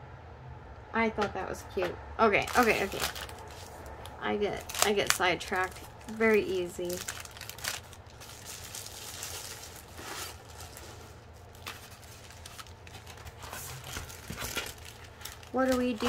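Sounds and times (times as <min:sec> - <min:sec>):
low steady hum: 0:00.0 - 0:16.0
plastic packaging rustling: 0:02.4 - 0:16.0.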